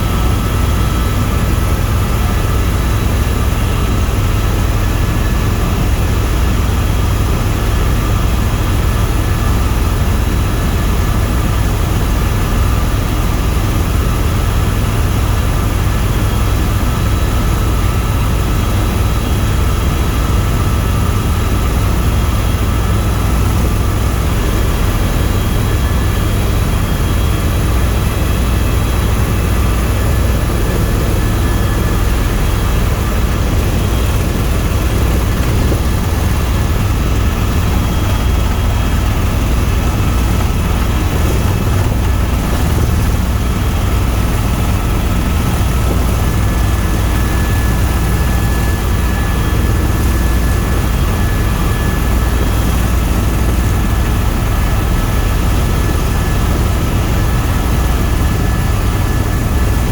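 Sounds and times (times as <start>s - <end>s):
helicopter rotor drone: 0.0s - 59.9s.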